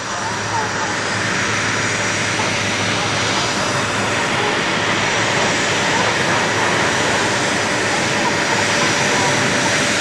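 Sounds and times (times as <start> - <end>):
jet engine with faint whine: 0.0 - 10.0.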